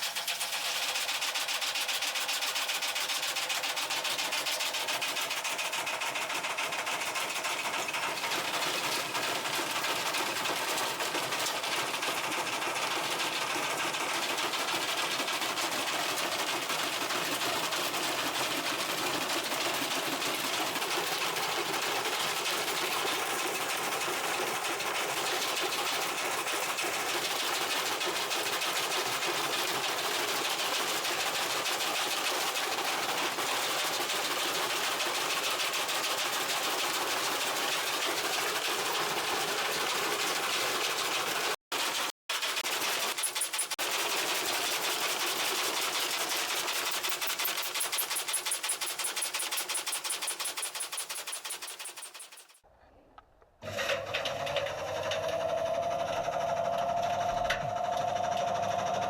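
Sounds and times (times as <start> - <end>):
washing machine rattling: 0.0 - 52.6.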